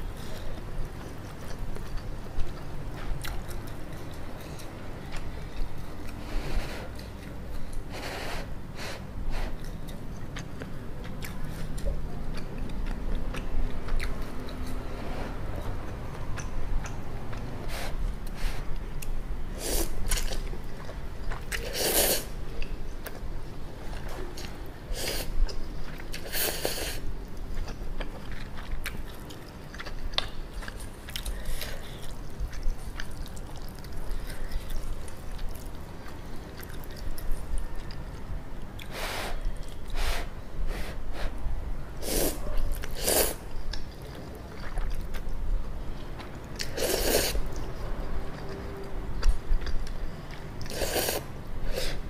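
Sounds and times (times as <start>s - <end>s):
chewing: 0.2s - 7.9s, 9.5s - 23.2s, 23.8s - 40.0s, 42.4s - 51.2s.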